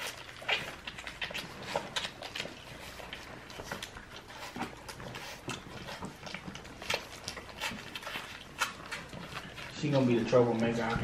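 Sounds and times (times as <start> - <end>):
puppies chewing and smacking: 0.0 - 11.0.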